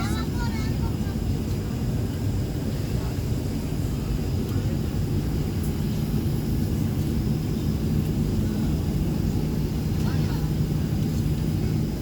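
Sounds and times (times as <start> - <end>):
airliner engines rumbling: 0.0 - 12.0.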